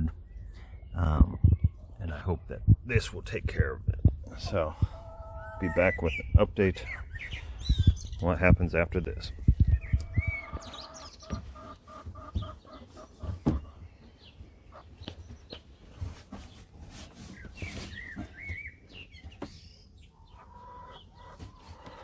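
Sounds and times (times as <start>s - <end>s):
chickens clucking: 1.0s - 22.0s.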